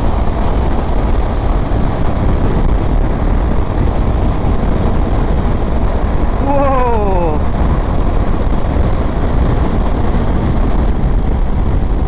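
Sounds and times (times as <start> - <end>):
motorcycle engine: 0.0 - 12.0
wind rushing over microphone: 0.0 - 12.0.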